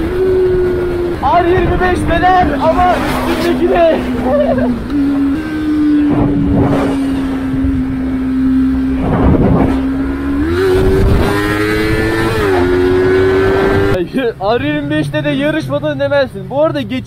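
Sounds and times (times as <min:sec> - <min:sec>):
motorcycle engine at high revs: 0:00.0 - 0:14.0
wind buffeting microphone: 0:00.0 - 0:14.0.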